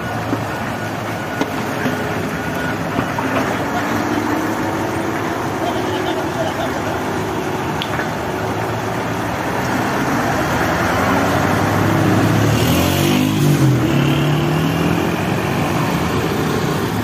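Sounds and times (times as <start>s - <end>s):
road traffic: 0.0s - 17.0s
truck engine revving: 0.0s - 17.0s.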